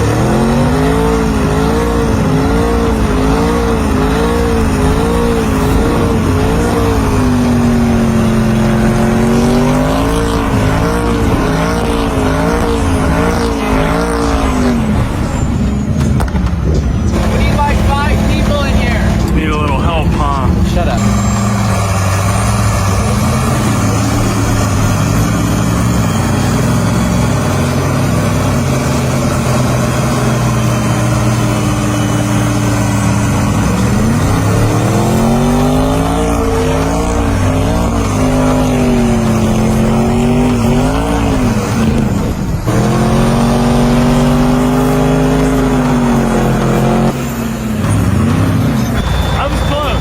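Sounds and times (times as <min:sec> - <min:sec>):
vehicle engine revving: 0:00.0 - 0:50.0.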